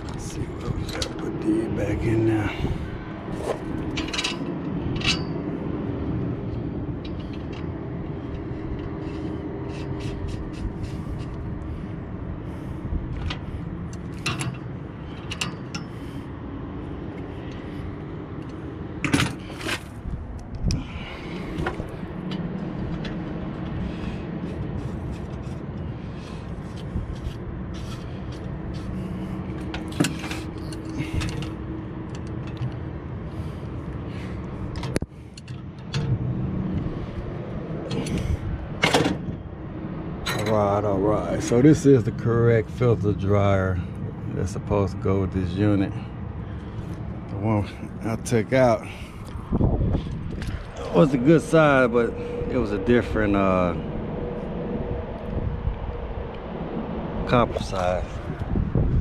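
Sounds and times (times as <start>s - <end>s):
low mechanical drone: 0.0s - 59.0s.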